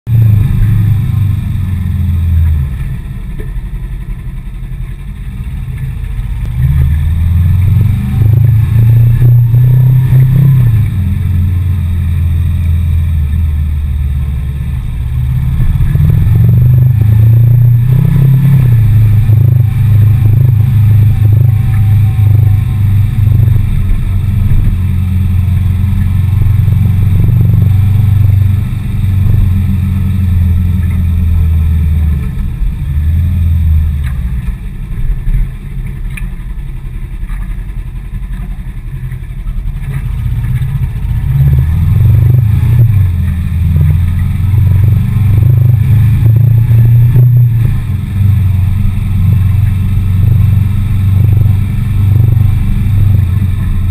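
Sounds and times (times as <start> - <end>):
motorcycle engine revving: 0.0 - 3.8, 4.4 - 36.1, 38.0 - 53.9.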